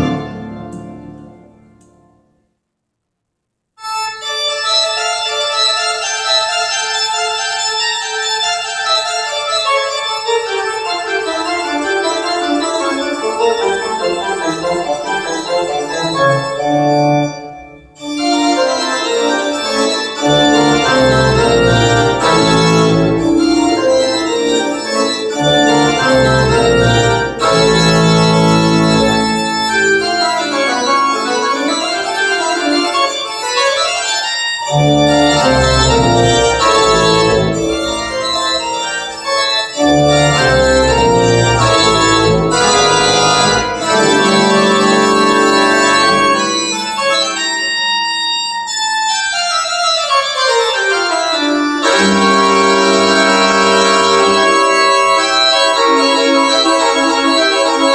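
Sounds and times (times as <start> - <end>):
organ-led keyboard music: 0.0 - 2.4, 3.8 - 57.9.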